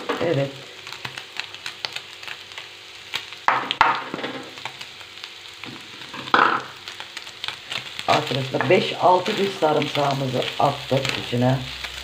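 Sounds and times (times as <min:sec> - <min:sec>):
chicken sizzling in oil: 0:00.0 - 0:12.0
garlic hissing in hot pan: 0:00.0 - 0:12.0.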